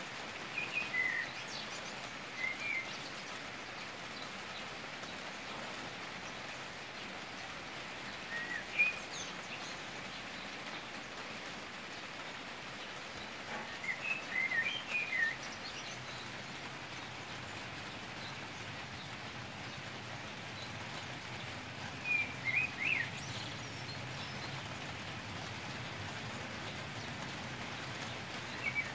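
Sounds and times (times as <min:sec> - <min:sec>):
rain shower hiss: 0:00.0 - 0:28.9.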